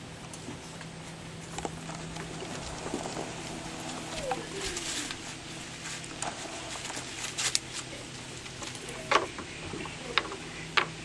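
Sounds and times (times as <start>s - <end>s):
puppy crunching lettuce leaves: 0.2s - 9.1s.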